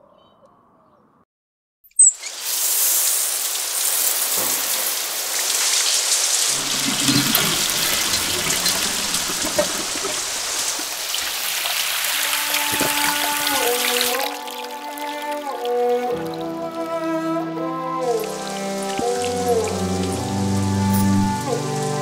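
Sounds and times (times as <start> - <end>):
shower spraying water: 2.2 - 17.1, 18.0 - 22.0.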